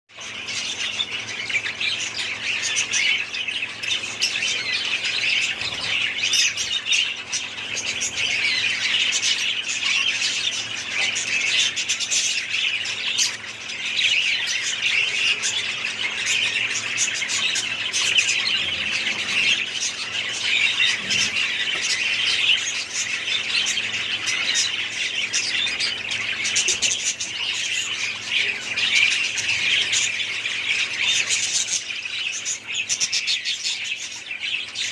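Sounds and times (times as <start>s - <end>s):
parrots chattering and squawking: 0.1s - 34.9s.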